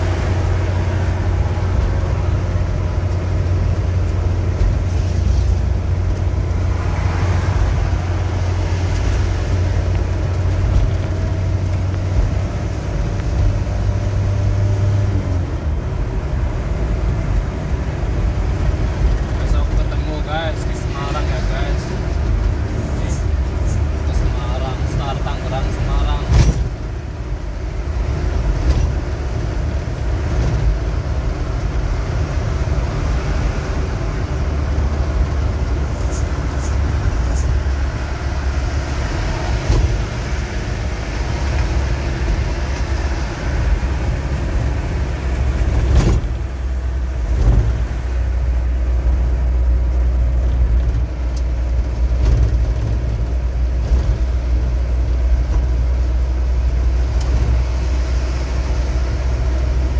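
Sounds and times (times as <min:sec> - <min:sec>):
road noise: 0:00.0 - 0:59.9
truck engine drone: 0:00.0 - 0:59.9.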